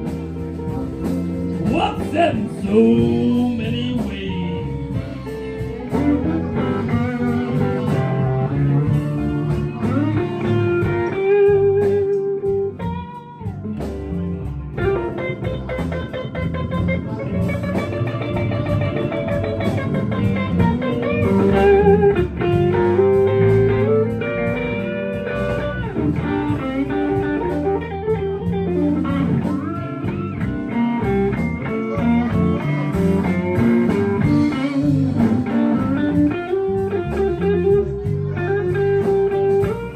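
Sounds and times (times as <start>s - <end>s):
bass and drums: 0.0s - 39.9s
lead guitar solo: 0.0s - 39.9s.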